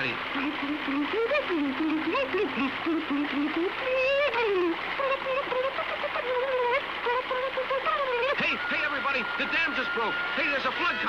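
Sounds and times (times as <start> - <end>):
buzzy warbling tone: 0.0 - 11.0.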